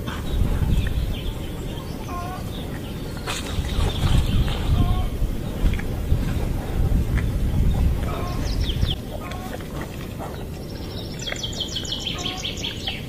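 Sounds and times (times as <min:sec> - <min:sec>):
songbirds chirping and singing: 0:00.0 - 0:13.0
wind rumbling on microphone: 0:00.0 - 0:13.0.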